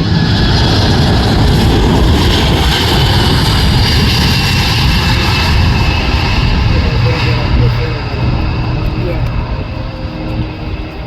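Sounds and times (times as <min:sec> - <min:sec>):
faint high engine whine: 0:00.0 - 0:11.0
jet roar flyby: 0:00.0 - 0:11.0.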